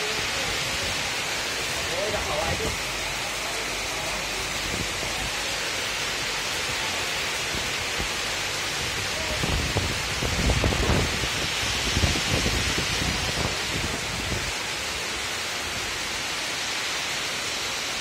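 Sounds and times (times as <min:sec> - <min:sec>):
strong wind gusts: 0:00.0 - 0:03.4, 0:04.2 - 0:16.1
heavy rain: 0:00.0 - 0:18.0.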